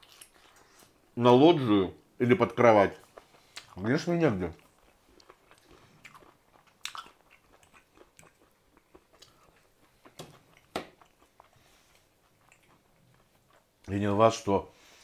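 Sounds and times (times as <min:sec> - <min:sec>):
chewing and mouth sounds: 0:00.0 - 0:01.2, 0:02.9 - 0:14.0.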